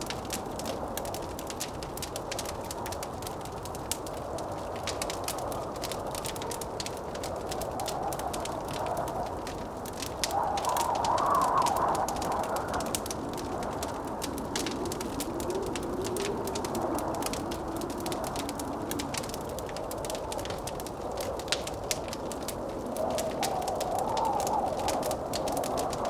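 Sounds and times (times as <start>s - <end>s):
fireplace crackling: 0.0s - 26.0s
howling blizzard wind: 0.0s - 26.0s.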